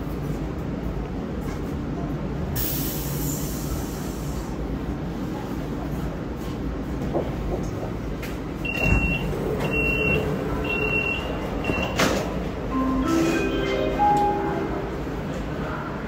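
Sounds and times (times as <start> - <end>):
subway train rumbling in tunnel: 0.0 - 16.0.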